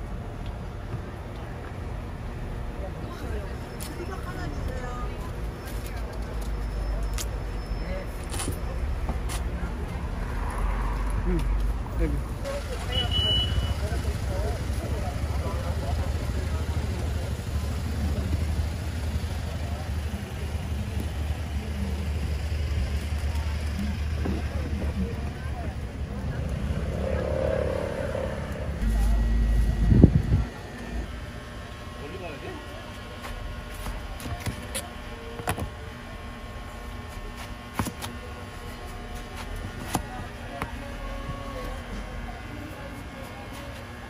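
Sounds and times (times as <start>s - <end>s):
low street rumble: 0.0s - 44.0s
faint voices: 0.8s - 44.0s.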